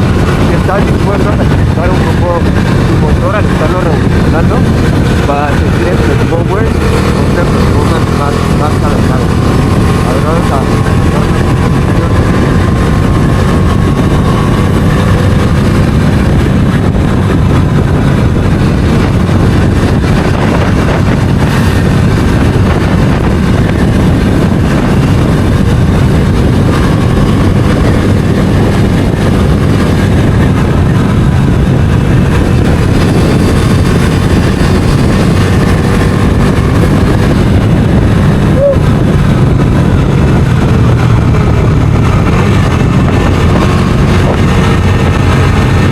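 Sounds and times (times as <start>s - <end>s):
motorcycle engine running: 0.0s - 45.9s
wind rush over microphone: 0.0s - 45.9s.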